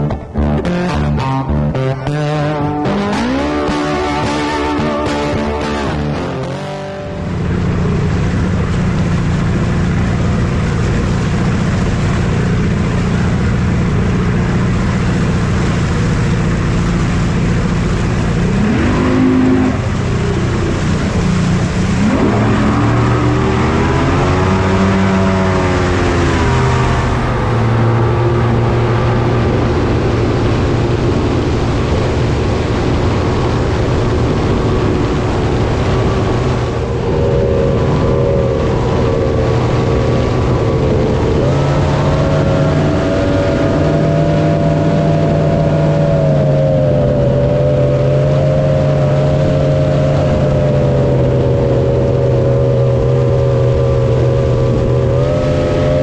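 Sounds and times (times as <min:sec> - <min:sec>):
engine revving: 0:00.0 - 0:56.0.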